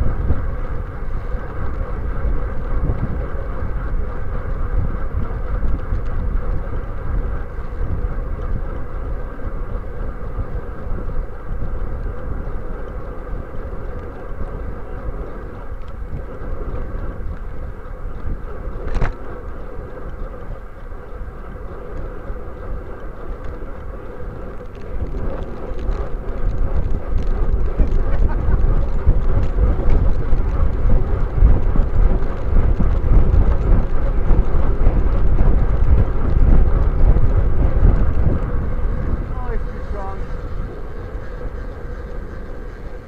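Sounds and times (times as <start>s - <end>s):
tyre noise on pavement: 0.0s - 43.0s
wind rush: 0.0s - 43.0s.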